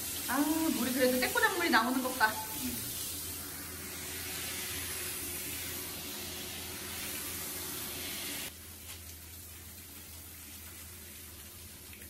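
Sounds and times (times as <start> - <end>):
shower sprayer hissing: 0.0 - 11.6.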